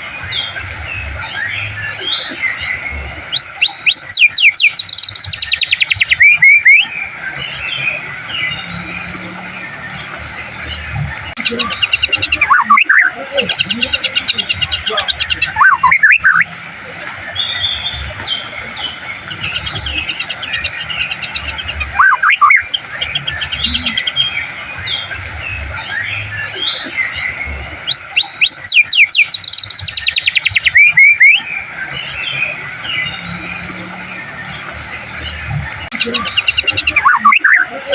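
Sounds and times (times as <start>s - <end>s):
soft bird chirps: 0.0s - 37.9s
songbird trills and whistles: 0.3s - 37.9s.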